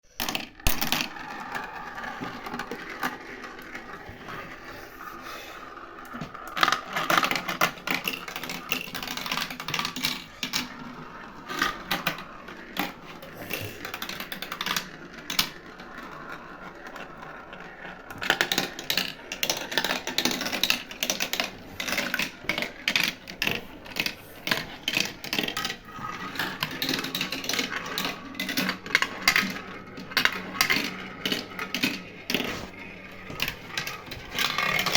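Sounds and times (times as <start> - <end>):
marbles clacking on track: 0.1 - 4.5, 6.0 - 34.9
marbles rolling on track: 0.1 - 34.9.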